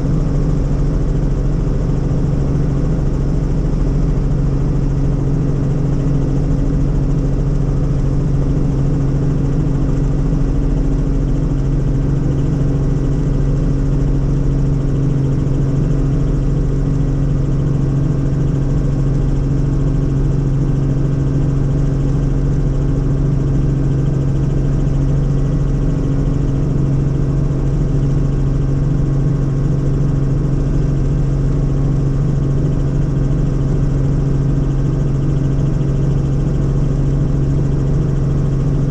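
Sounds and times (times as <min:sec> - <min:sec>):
helicopter drone inside cabin: 0:00.0 - 0:38.9.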